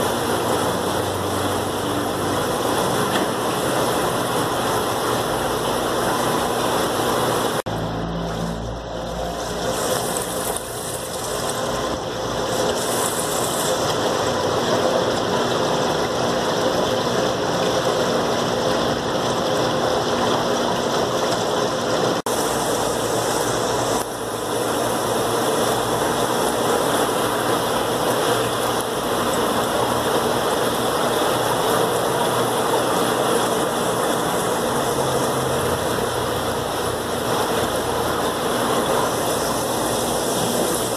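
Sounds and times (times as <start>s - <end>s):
aquarium filters humming and rushing: 0.0s - 40.9s.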